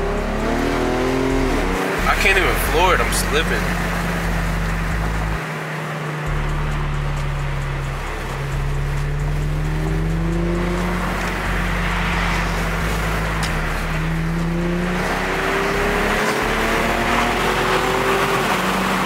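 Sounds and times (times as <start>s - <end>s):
car engine droning in cabin: 0.0s - 19.0s.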